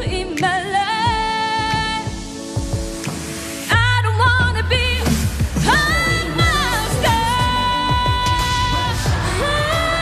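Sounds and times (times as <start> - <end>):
woman singing: 0.0 - 2.5, 3.7 - 10.0
pop band backing: 0.0 - 10.0.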